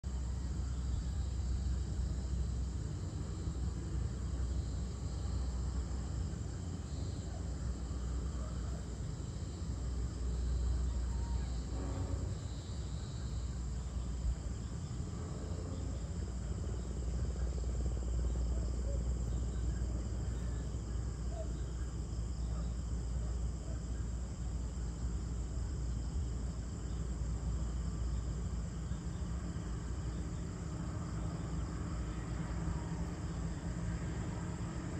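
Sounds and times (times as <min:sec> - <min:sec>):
crickets and insects chirring: 0:00.0 - 0:34.9
low steady rumble: 0:00.0 - 0:34.9.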